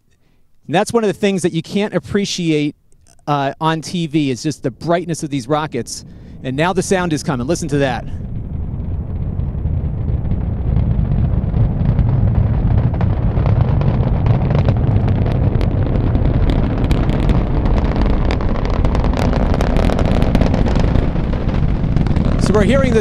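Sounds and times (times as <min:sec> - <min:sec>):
sharp crackling pops: 0:02.8 - 0:23.0
rocket launch roar: 0:03.9 - 0:23.0.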